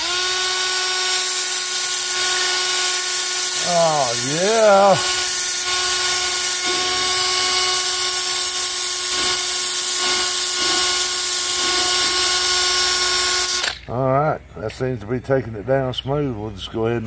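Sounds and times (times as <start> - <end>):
cordless drill sanding whine: 0.0 - 13.8
grinding hiss: 0.0 - 13.8.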